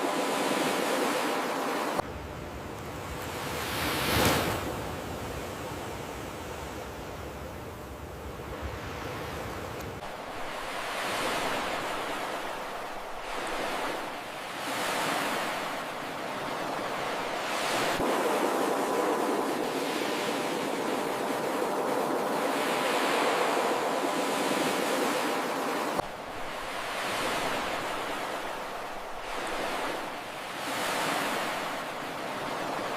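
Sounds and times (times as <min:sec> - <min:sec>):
waves breaking on shore: 0:00.0 - 0:02.0, 0:02.8 - 0:07.3, 0:08.2 - 0:32.9.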